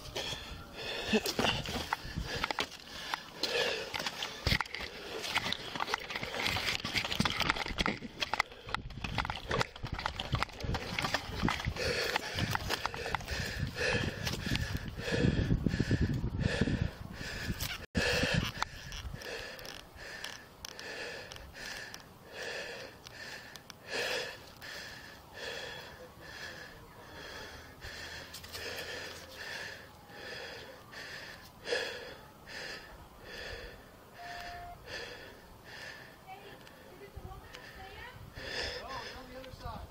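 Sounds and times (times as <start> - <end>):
rapid heavy breathing: 0.0 - 39.9.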